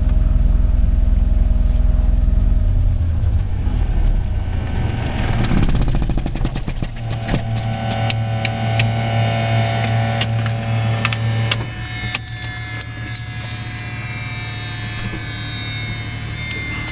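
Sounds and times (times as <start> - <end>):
aircraft engine running down: 0.0 - 16.9
high whine falling in pitch: 0.0 - 16.9
steady low hum: 0.0 - 16.9.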